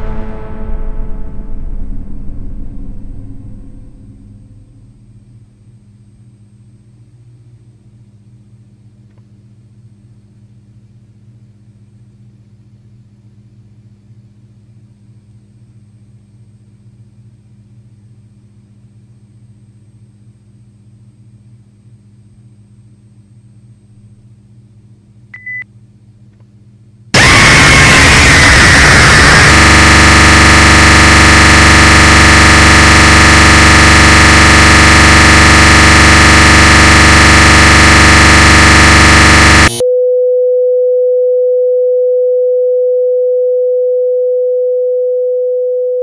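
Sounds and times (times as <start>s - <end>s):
electrical hum with high whine: 0.0s - 40.0s.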